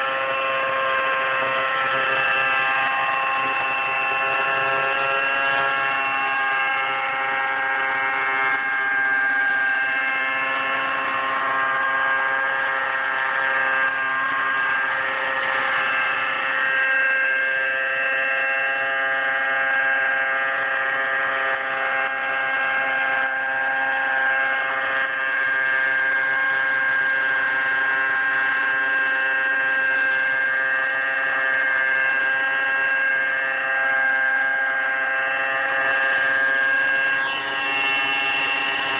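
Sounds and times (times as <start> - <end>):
rc helicopter engine and rotors: 0.0 - 38.9.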